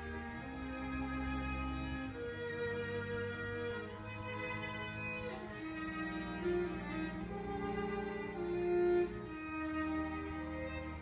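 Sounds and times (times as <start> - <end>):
string quintet playing: 0.0 - 11.0.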